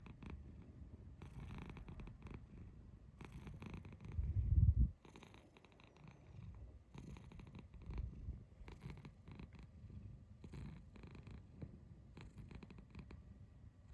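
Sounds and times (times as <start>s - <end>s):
cat purring: 0.0s - 13.9s.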